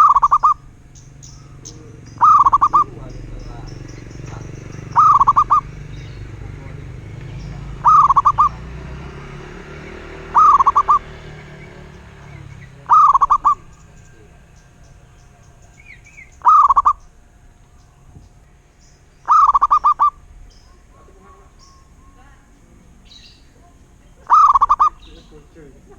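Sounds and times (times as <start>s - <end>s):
bird chirp: 0.0s - 25.9s
dove cooing: 0.0s - 25.9s.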